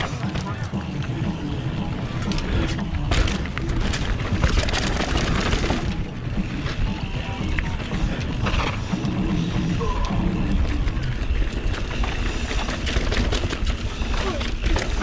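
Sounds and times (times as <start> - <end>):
bike rattling and knocking: 0.0 - 15.0
bike tyres on dirt: 0.0 - 15.0.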